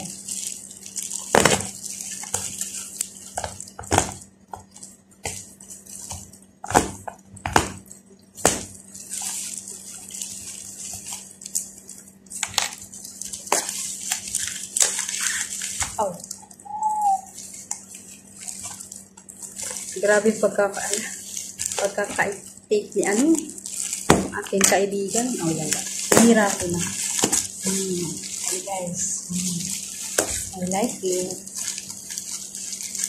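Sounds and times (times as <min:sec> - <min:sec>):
plastic bag crinkling: 0:00.0 - 0:33.0.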